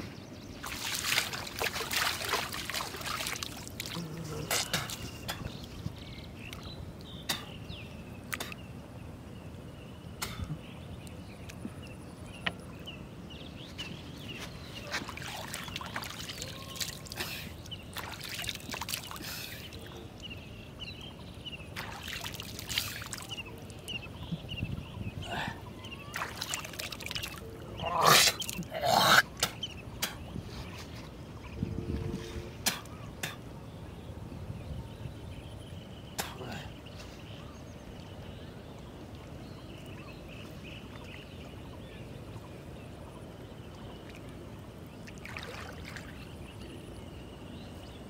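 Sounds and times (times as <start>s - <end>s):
water trickling and splashing: 0.0s - 8.7s, 13.3s - 33.4s, 36.0s - 48.0s.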